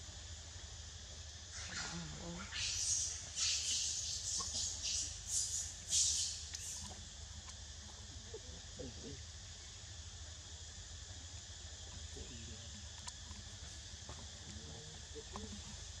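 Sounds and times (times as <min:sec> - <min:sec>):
faint low wavering sounds: 0:00.0 - 0:16.0
insects chorus: 0:00.0 - 0:16.0.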